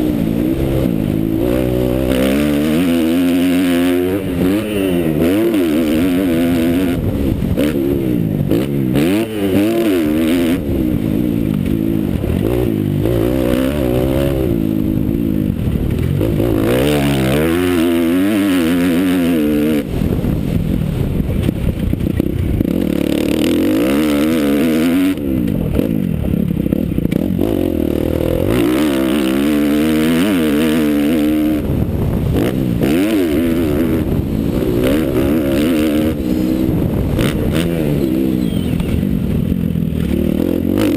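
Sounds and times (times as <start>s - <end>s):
motocross bike engine revving: 0.0s - 20.2s, 22.0s - 40.9s.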